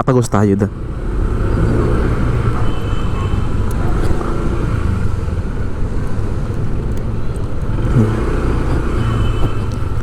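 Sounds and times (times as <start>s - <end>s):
city road traffic rumble: 0.0s - 10.0s.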